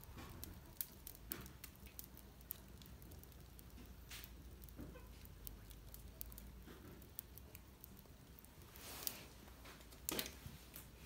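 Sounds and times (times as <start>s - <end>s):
firewood crackling and popping: 0.0s - 11.0s.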